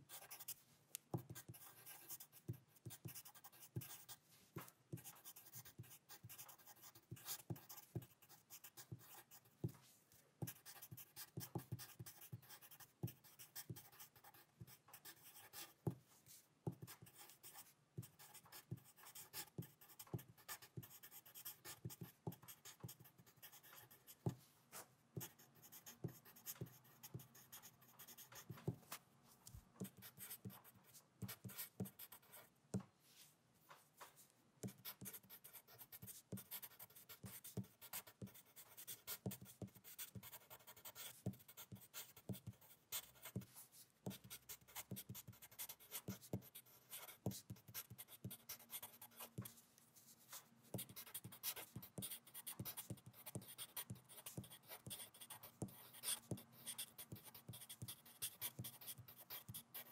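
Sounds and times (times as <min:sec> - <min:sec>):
pen scratching on paper: 0:00.1 - 0:04.2, 0:04.9 - 0:09.8, 0:10.4 - 0:15.9, 0:16.7 - 0:24.4, 0:25.2 - 0:29.0, 0:29.8 - 0:32.5, 0:34.6 - 0:49.6, 0:50.2 - 0:59.9.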